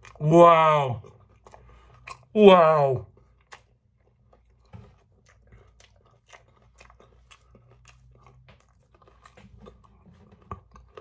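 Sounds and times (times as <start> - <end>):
man chewing and crunching: 0.0 - 11.0.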